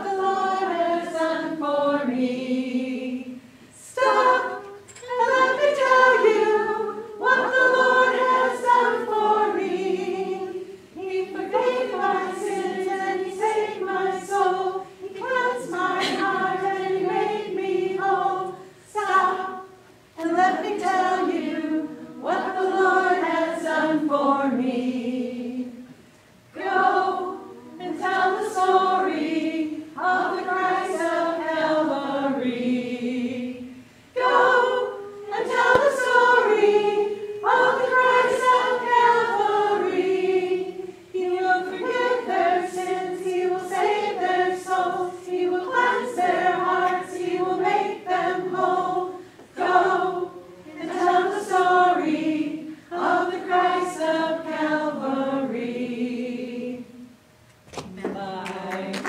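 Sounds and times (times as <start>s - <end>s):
women singing unaccompanied: 0.0s - 25.9s, 26.5s - 57.2s, 57.8s - 59.0s.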